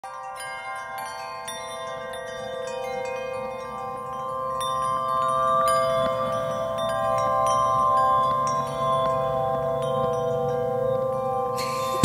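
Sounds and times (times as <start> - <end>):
chimes ringing: 0.0 - 12.0.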